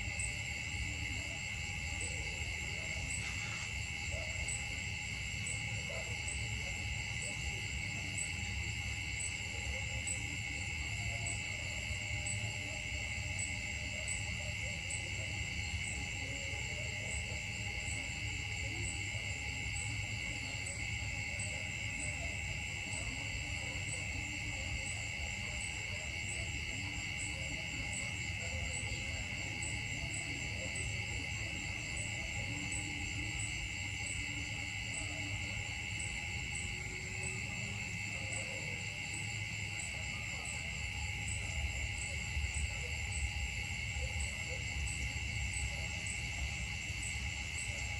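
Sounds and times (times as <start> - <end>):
insect chorus droning: 0.0 - 47.9.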